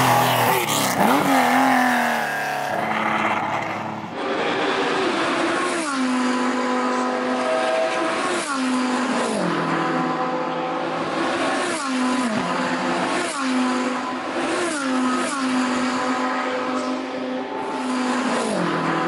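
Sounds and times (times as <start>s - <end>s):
rally car engine running hard: 0.0s - 19.0s.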